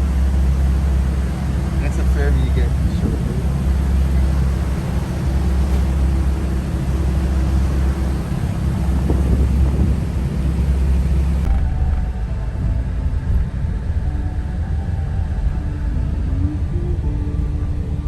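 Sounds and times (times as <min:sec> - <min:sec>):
ferry engines low rumble: 0:00.0 - 0:18.0
wind noise: 0:00.0 - 0:18.0.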